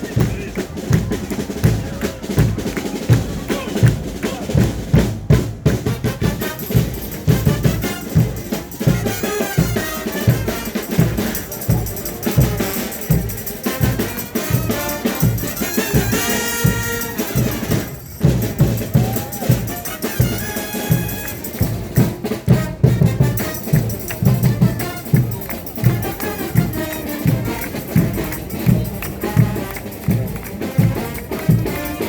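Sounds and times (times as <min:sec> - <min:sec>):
bass drum and snare beat: 0:00.0 - 0:32.0
brass horns melody: 0:05.7 - 0:32.0.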